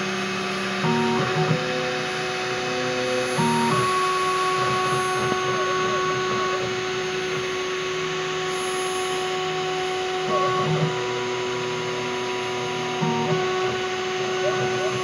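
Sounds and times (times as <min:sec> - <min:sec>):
router spindle whine: 0:00.0 - 0:15.0
stepper motors humming: 0:02.8 - 0:15.0.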